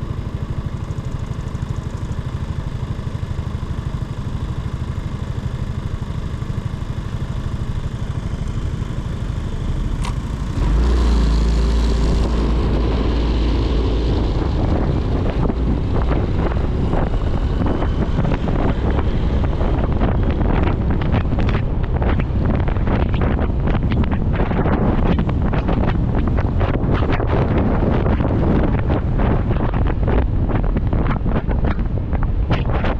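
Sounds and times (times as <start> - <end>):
motorcycle engine: 0.0 - 30.8
wind buffeting microphone: 5.9 - 32.9.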